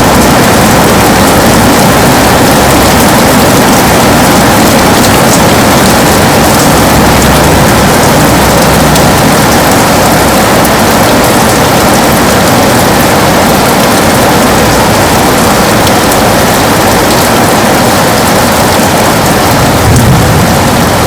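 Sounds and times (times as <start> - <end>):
heavy rain on a window: 0.0 - 21.0.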